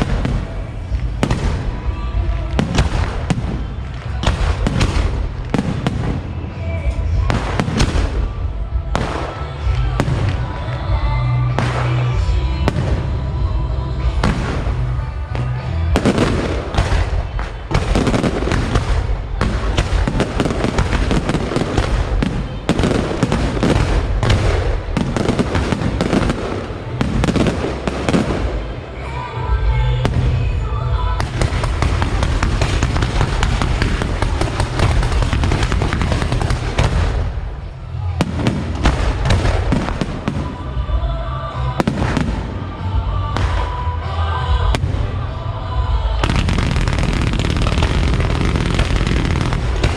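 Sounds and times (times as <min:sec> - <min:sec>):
fireworks crackling and banging: 0:00.0 - 0:49.9.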